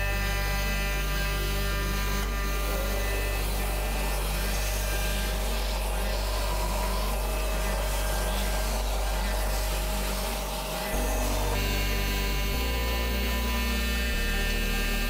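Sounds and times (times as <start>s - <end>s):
router spindle humming and whining: 0.0s - 15.0s.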